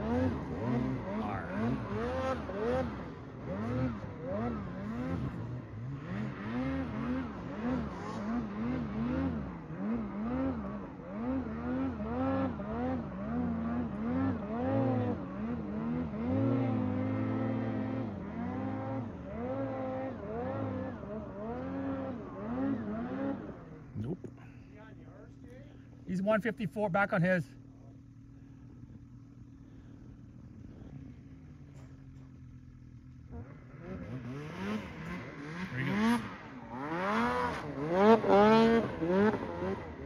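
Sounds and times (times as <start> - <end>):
snowmobile engine revving: 0.0 - 25.4, 33.2 - 40.0.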